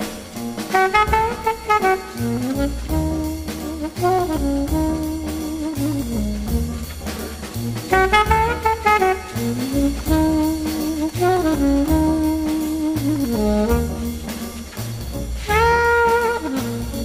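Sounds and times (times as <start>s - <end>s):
bass line: 0.0s - 17.0s
jazz horn melody: 0.0s - 17.0s.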